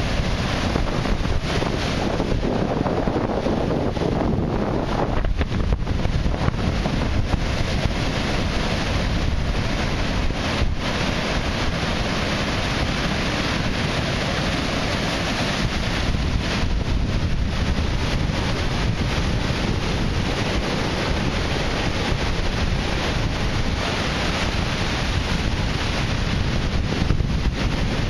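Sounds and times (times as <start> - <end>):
storm surf breaking: 0.0 - 28.0
wind buffeting the microphone: 0.0 - 28.0.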